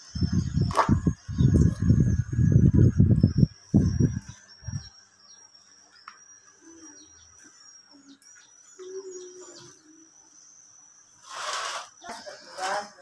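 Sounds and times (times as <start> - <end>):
faint bird chirps: 0.0 - 13.0
steady high-pitched ringing: 0.0 - 13.0.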